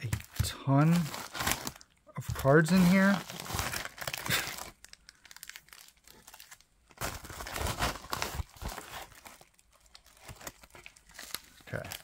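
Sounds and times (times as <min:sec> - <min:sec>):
plastic bubble mailer crinkling: 0:00.0 - 0:12.0.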